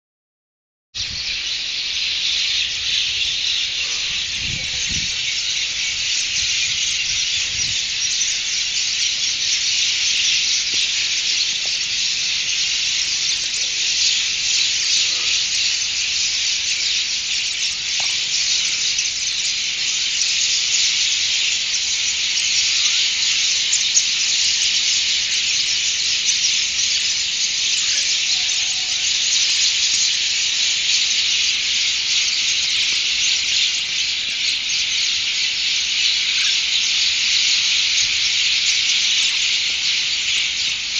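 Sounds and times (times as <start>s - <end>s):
flock of birds chirping: 1.0s - 40.9s.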